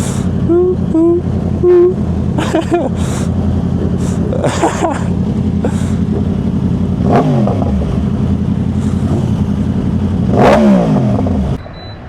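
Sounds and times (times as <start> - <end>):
motorcycle engine revs falling: 0.0 - 12.0.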